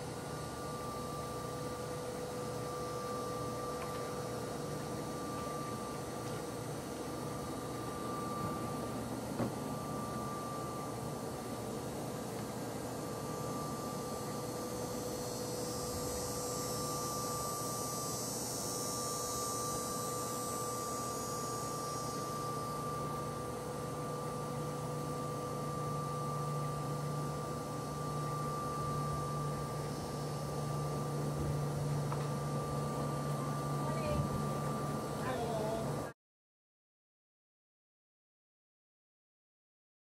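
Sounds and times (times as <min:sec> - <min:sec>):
faint high steady tones: 0:00.0 - 0:36.1
low hum: 0:00.0 - 0:36.1
background hum and hiss: 0:00.0 - 0:36.2.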